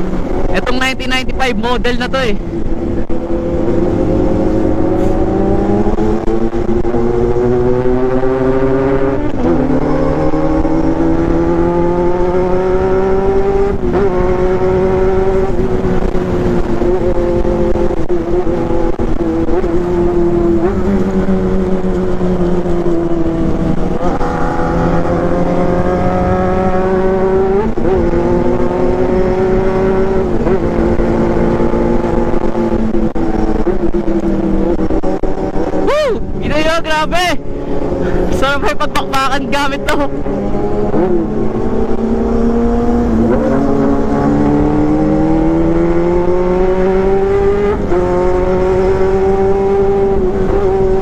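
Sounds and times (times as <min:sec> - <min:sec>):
motorcycle engine at high revs: 0:00.0 - 0:51.0.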